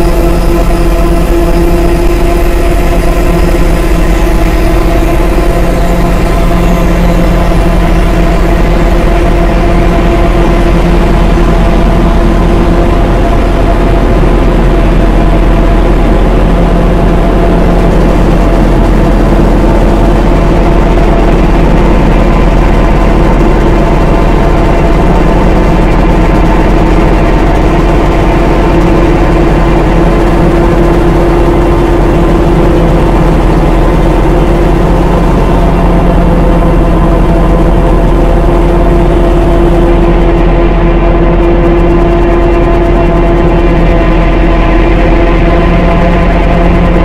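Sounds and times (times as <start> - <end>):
dark ambient drone: 0.0 - 47.0.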